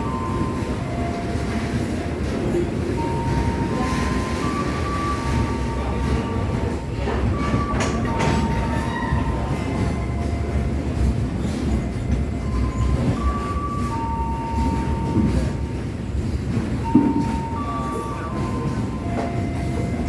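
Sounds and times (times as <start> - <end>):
high ringing from train wheels: 0.0 - 20.0
train wagons rumbling past: 0.0 - 20.0.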